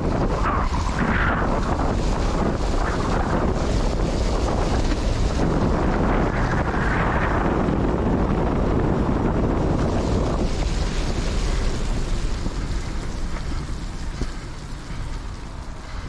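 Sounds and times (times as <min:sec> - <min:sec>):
bike tyres on wet path: 0:00.0 - 0:16.0
wind buffeting microphone: 0:00.0 - 0:16.0.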